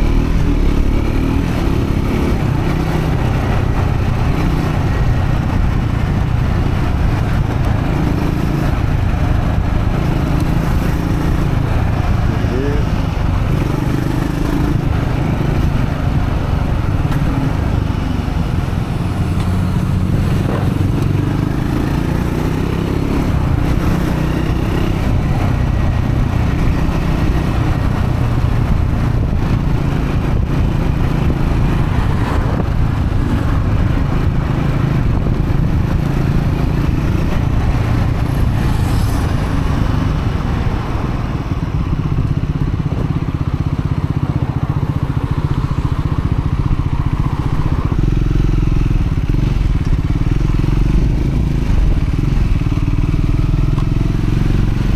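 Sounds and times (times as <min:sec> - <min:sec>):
single-cylinder motorcycle engine running: 0:00.0 - 0:54.9.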